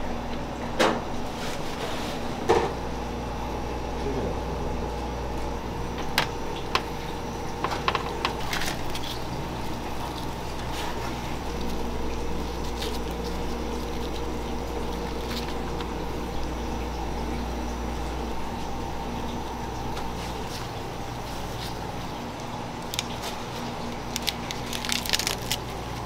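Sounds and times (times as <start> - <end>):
kitchen equipment hum and hiss: 0.0 - 26.0.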